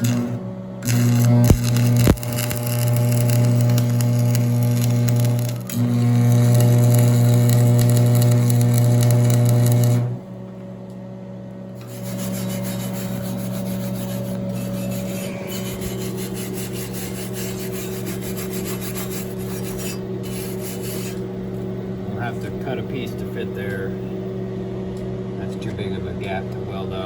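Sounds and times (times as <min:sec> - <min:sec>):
lower-pitched machine hum: 0:00.0 - 0:27.0
shop machinery humming: 0:00.0 - 0:27.0.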